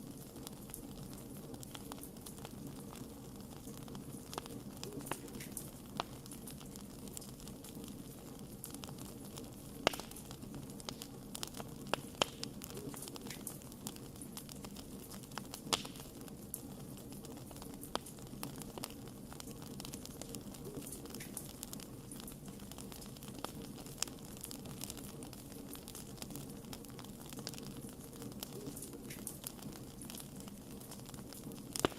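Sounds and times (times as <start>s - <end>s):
campfire flames rumbling: 0.0s - 31.9s
fire crackling and popping: 0.0s - 31.9s.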